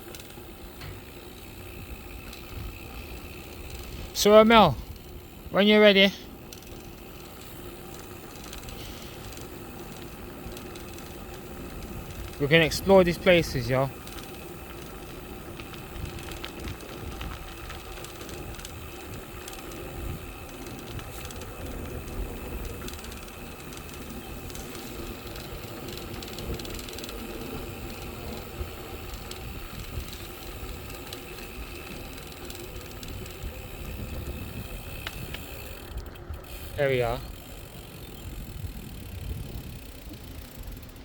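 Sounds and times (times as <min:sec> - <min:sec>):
freewheel ratchet ticking: 0:00.0 - 0:41.0
tyres rumbling: 0:00.0 - 0:41.0
wind: 0:00.0 - 0:41.0.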